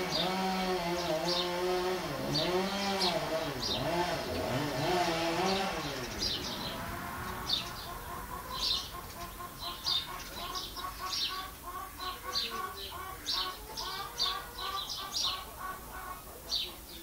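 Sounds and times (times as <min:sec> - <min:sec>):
hens clucking: 0:00.0 - 0:17.0
small birds chirping: 0:00.0 - 0:17.0.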